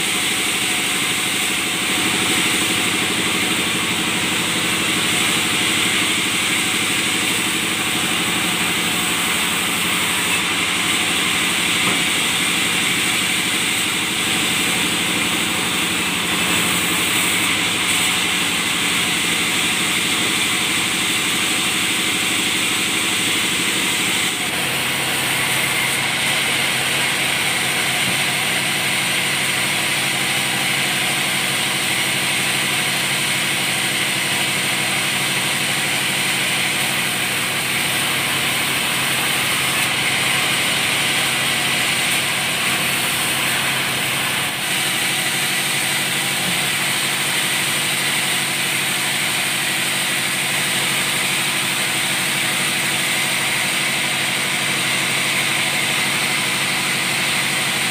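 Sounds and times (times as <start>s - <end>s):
band sawmill machinery running: 0.0s - 57.9s.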